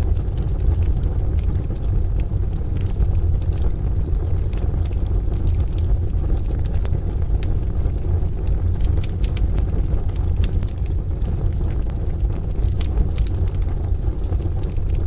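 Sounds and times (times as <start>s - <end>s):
deep rumble of fire: 0.0s - 15.0s
wood fire crackling: 0.0s - 15.0s.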